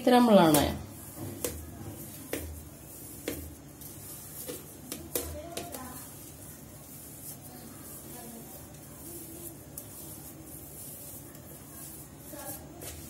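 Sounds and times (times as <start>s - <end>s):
fingers kneading on steel plate: 0.0s - 13.0s.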